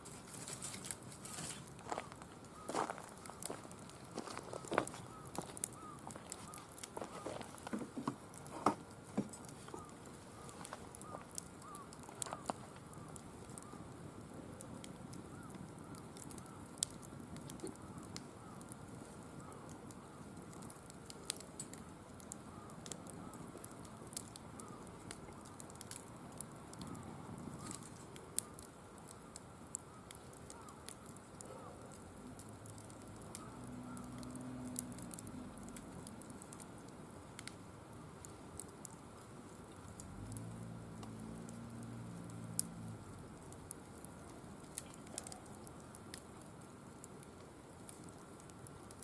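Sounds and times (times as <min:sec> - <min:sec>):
firewood crackling and popping: 0:00.0 - 0:49.0
low burning noise: 0:00.0 - 0:49.0.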